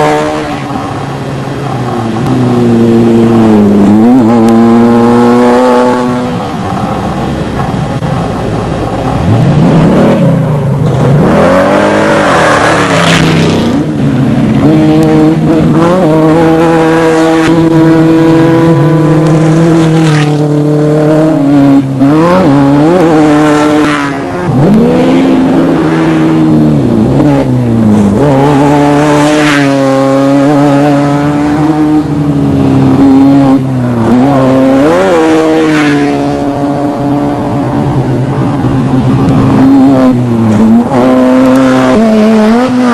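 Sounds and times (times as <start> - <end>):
race vehicle engine revving: 0.0 - 42.9.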